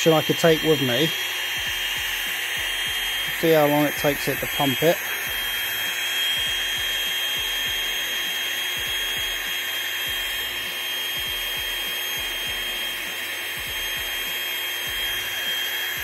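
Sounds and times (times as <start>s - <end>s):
electric inflator whining: 0.0s - 16.0s.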